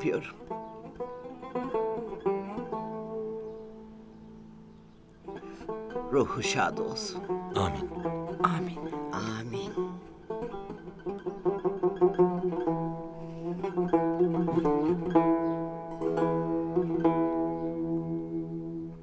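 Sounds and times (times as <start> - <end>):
gentle plucked-string music: 0.0 - 19.0.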